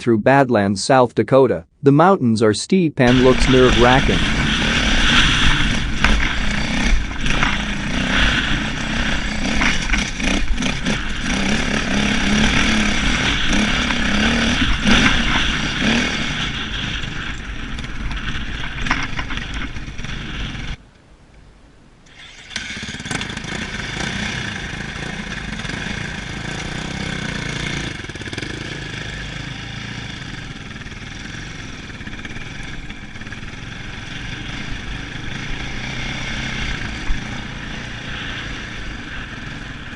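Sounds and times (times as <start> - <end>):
dirt bike engines revving: 1.9 - 20.8, 22.1 - 39.9.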